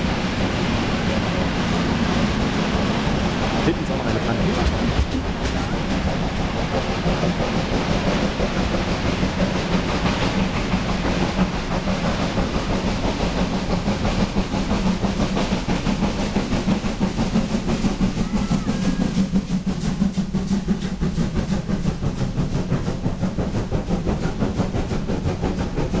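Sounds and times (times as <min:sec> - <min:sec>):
steady rumble: 0:00.0 - 0:26.0
train wheels clattering on rails: 0:00.0 - 0:26.0.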